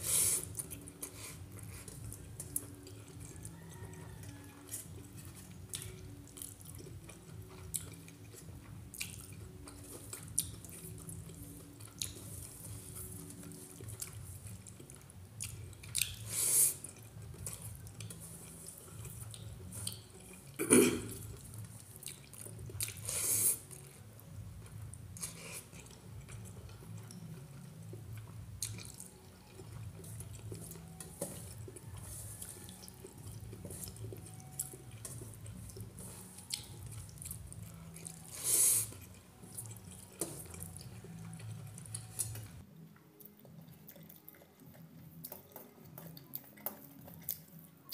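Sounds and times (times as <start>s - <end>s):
low steady hum: 0.0s - 47.9s
wet chewing and mouth smacks: 0.4s - 20.6s, 21.2s - 24.0s, 24.6s - 47.9s.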